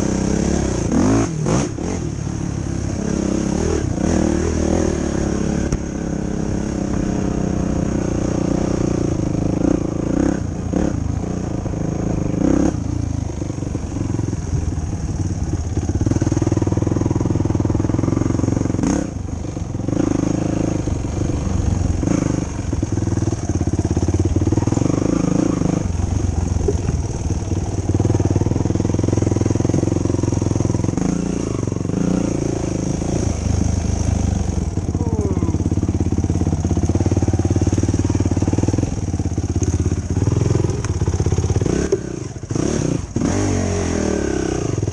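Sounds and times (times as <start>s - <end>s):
quad engine revving: 0.0s - 44.9s.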